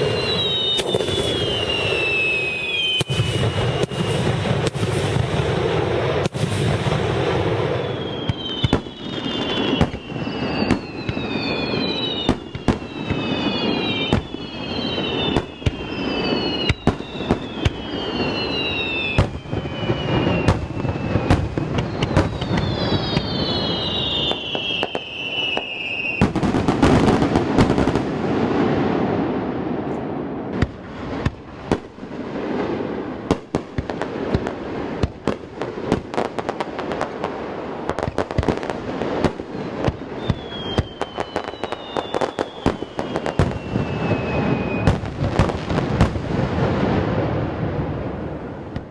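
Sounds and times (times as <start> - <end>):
falling firework whistles: 0.0 - 48.9
firework crackling: 0.0 - 48.9.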